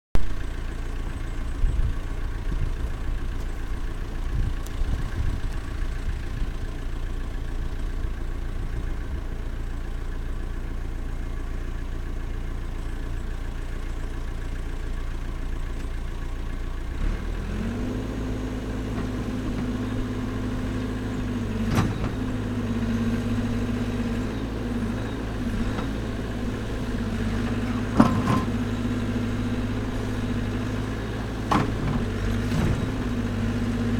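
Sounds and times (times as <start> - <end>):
diesel engine idling: 0.2 - 33.9.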